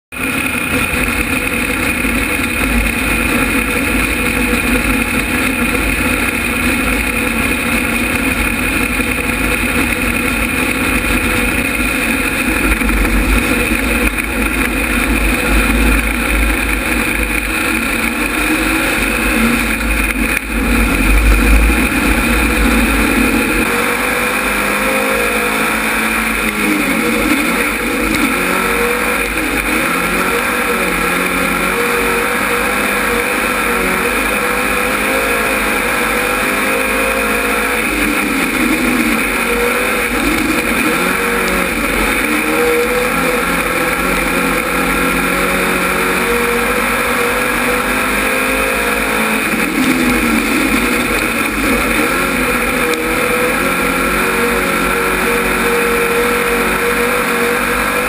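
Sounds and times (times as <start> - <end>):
race car engine rumbling: 0.0 - 58.0.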